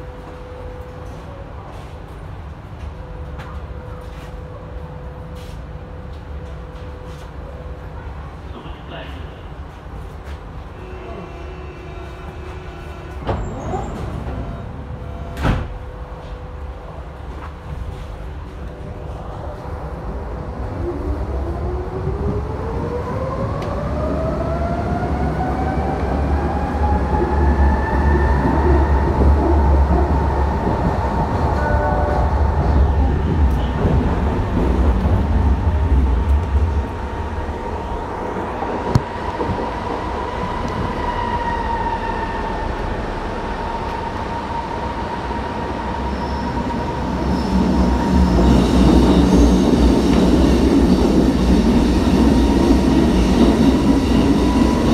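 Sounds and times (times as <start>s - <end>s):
subway train drive whine: 0.0s - 54.9s.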